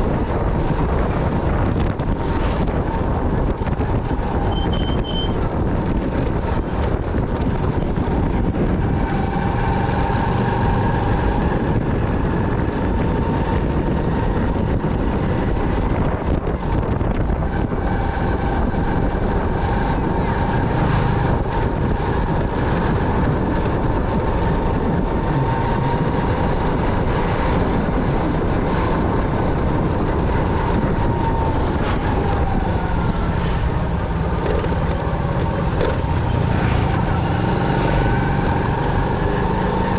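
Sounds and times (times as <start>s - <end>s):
motorcycle engine and road noise: 0.0s - 39.9s
wind buffeting microphone: 0.0s - 39.9s.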